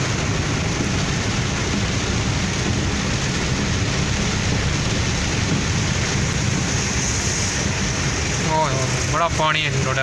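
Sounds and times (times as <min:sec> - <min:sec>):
heavy rain: 0:00.0 - 0:10.0
tyre spray on wet road: 0:00.0 - 0:10.0
vehicle rumble: 0:00.0 - 0:10.0.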